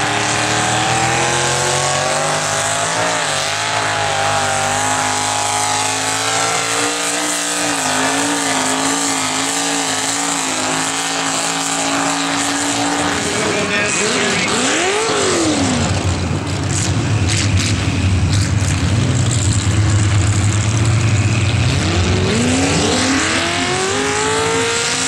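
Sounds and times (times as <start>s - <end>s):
truck engine revving high: 0.0s - 25.0s.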